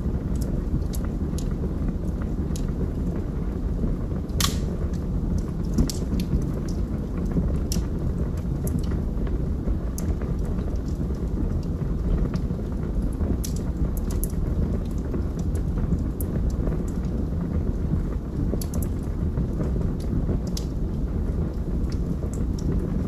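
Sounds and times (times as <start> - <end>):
burning logs crackling and popping: 0.0 - 23.0
fire flames rumbling: 0.0 - 23.0.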